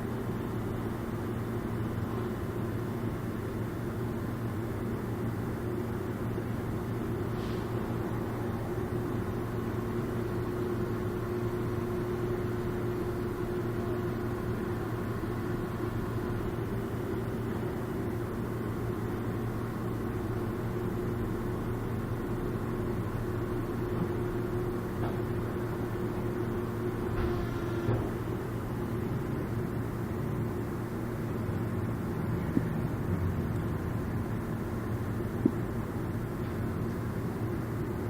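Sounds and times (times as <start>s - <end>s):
mechanical drone with humming tones: 0.0s - 38.0s.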